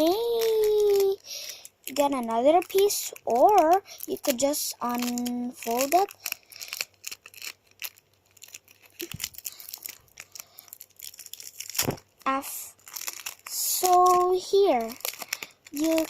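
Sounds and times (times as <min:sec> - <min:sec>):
paper crinkling: 0:00.0 - 0:16.0
sticky tape crackling: 0:00.0 - 0:16.0.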